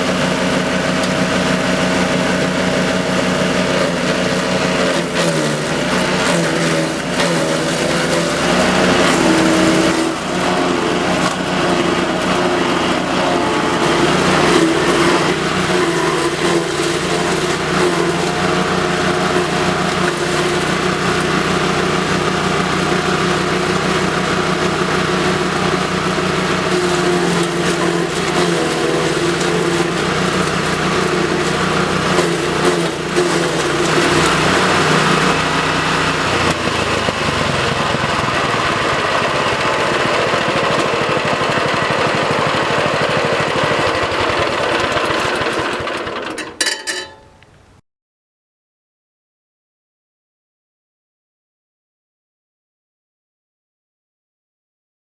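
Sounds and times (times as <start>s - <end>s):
garden chipper engine running: 0.0s - 47.7s.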